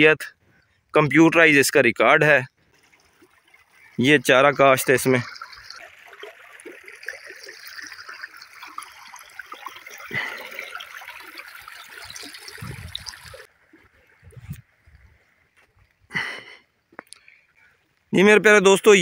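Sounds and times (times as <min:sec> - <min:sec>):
water running in channel: 0:00.0 - 0:19.0.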